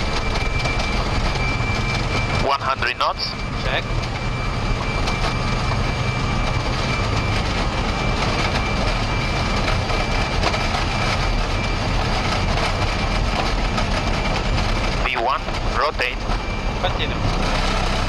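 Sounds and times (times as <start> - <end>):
jet engines and wheels rumbling: 0.0 - 18.0.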